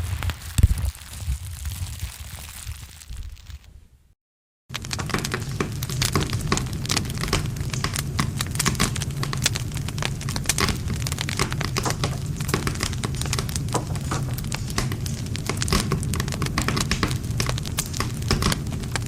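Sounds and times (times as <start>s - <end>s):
wood fire crackling and popping: 0.0s - 3.7s, 4.7s - 19.0s
low rumble of flame: 0.0s - 4.1s, 4.7s - 19.0s.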